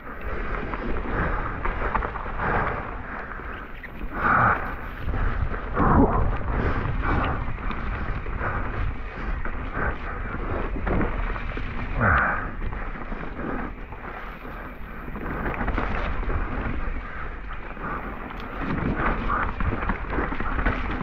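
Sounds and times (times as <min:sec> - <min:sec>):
bike tyres rumbling on trail: 0:00.0 - 0:21.0
wind buffeting microphone: 0:00.0 - 0:21.0.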